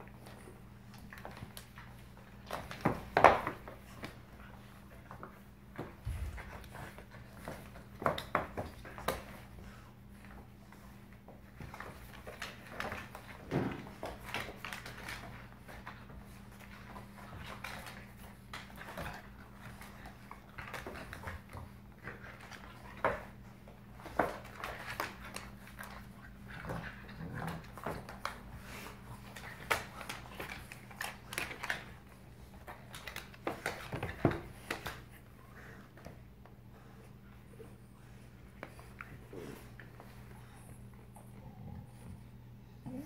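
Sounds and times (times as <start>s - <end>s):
dogs play-fighting: 0.0s - 43.0s
faint low hum: 0.0s - 43.0s
paws scuffling on wooden floor: 0.0s - 43.0s.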